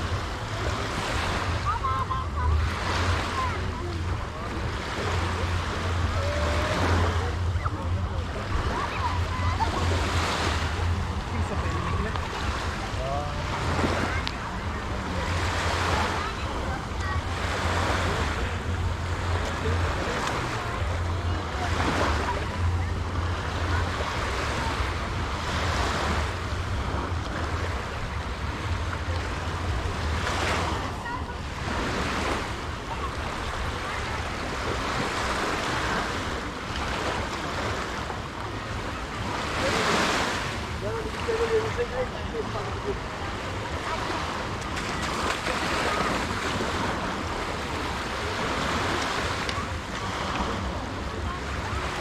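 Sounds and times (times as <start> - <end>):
sea waves washing onto beach: 0.0 - 52.0.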